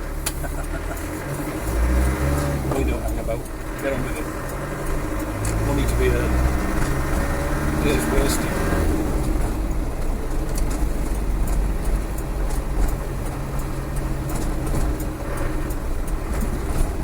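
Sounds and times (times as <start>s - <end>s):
diesel engine rumble while driving: 0.0s - 17.0s.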